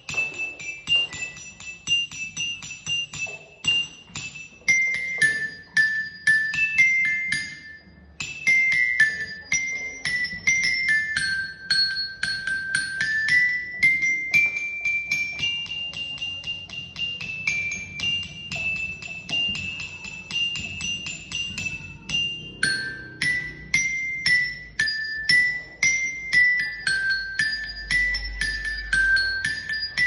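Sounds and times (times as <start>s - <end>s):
glockenspiel melody: 0.0s - 30.0s.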